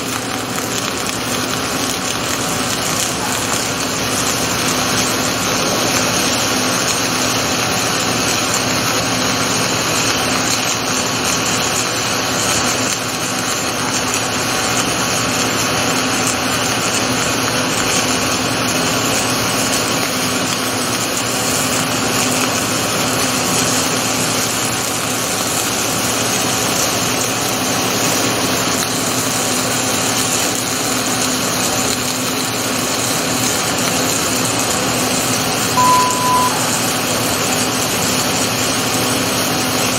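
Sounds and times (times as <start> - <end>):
welding machine hiss and hum: 0.0 - 39.9.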